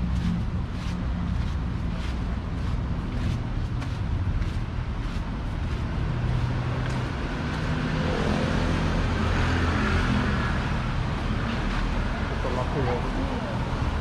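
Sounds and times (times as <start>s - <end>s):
traffic rumble: 0.0s - 14.0s
vehicle passing by: 0.0s - 14.0s.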